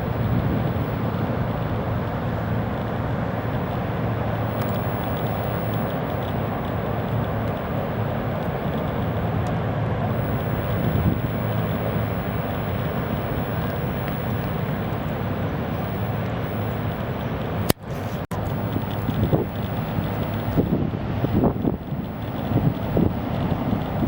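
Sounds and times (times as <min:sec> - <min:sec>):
heavy ocean surf: 0:00.0 - 0:24.0
wind buffeting microphone: 0:00.0 - 0:24.0.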